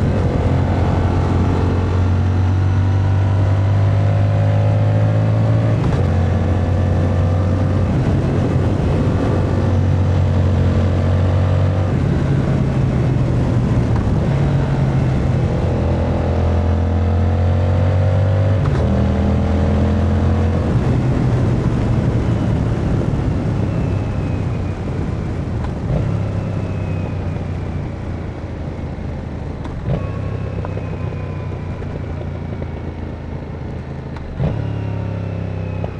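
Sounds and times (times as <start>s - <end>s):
motorcycle engine at speed: 0.0s - 35.9s.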